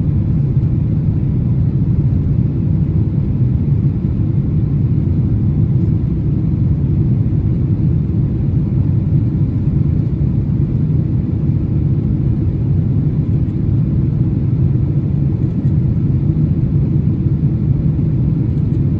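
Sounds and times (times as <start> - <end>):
jet engine rumble in cabin: 0.0 - 18.9.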